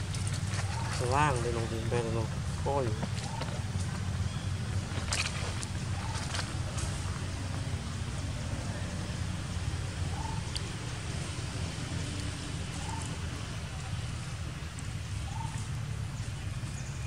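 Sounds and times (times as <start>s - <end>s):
constant low rumble: 0.0s - 17.0s.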